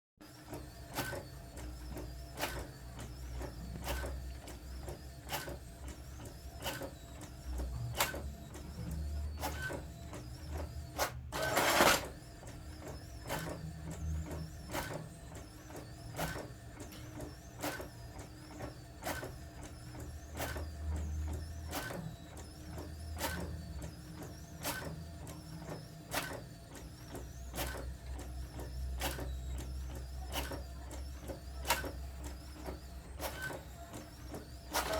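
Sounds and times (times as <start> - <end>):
printer mechanical hum: 0.2 - 34.9.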